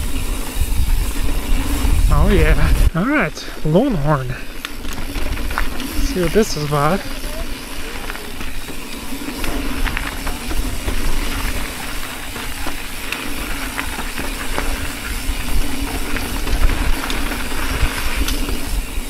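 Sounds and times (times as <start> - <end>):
wind buffeting microphone: 0.0 - 3.0, 4.4 - 19.0
bike rattling over bumps: 0.0 - 19.0
tyres over dirt and rocks: 0.0 - 19.0.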